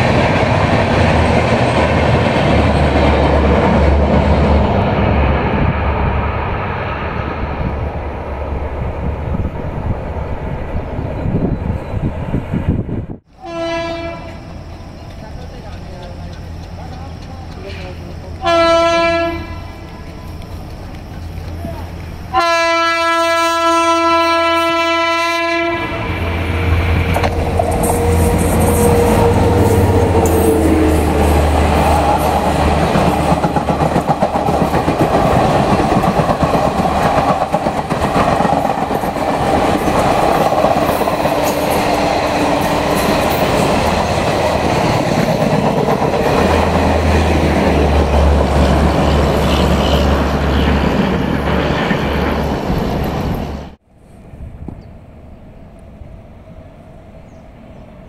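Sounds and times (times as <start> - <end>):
express train roaring past: 0.0 - 58.0.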